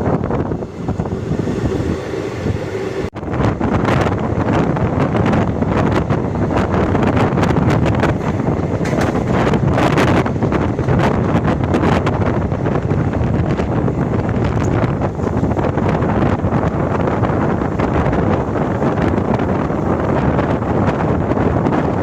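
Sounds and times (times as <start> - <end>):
train running on track: 0.0 - 22.0
wind buffeting microphone: 0.0 - 22.0.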